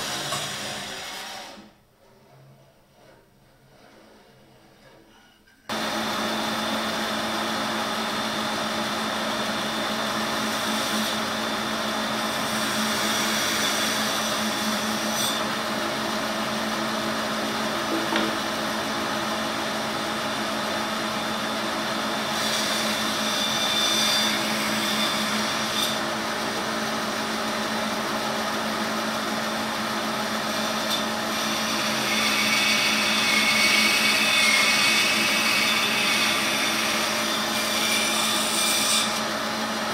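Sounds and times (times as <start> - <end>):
bandsaw cutting wood: 0.0 - 1.8, 5.7 - 39.9.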